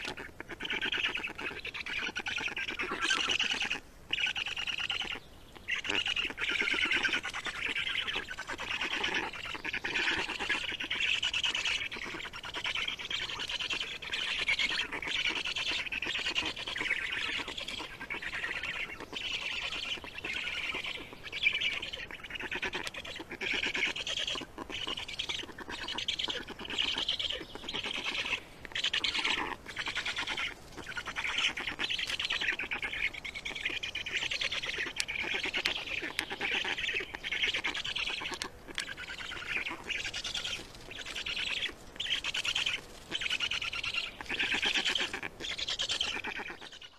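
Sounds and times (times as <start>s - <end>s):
small birds squawking: 0.0s - 46.9s.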